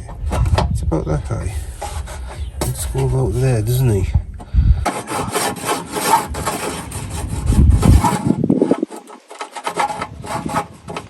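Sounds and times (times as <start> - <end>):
sheet metal scraping: 0.0 - 11.0.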